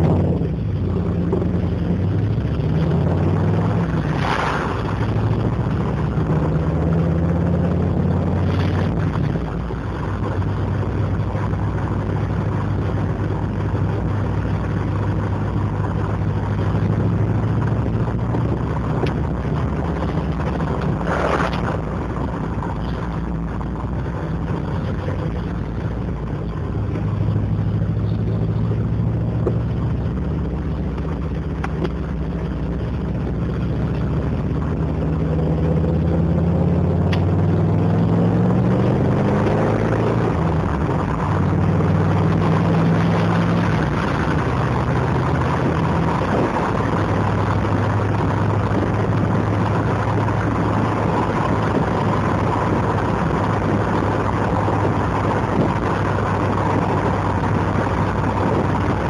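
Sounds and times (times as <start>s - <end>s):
car engine burbling: 0.0s - 59.0s.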